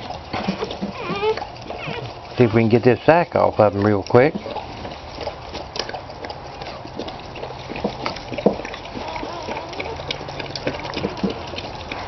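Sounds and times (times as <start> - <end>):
wet clicking and smacks: 0.0 - 12.0.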